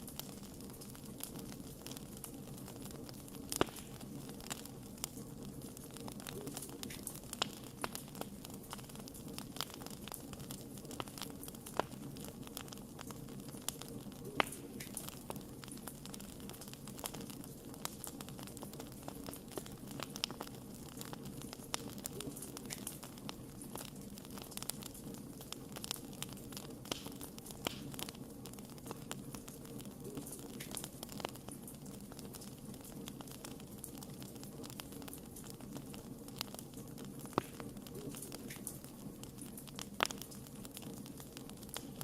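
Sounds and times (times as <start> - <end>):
campfire crackling: 0.0 - 42.0
fire rumbling: 0.0 - 42.0.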